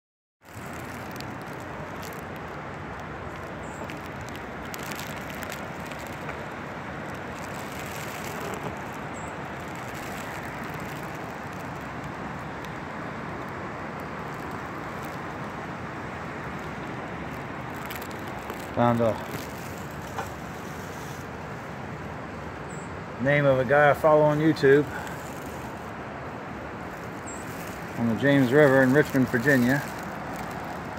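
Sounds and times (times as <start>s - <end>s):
distant river rapids roaring: 0.5s - 30.9s.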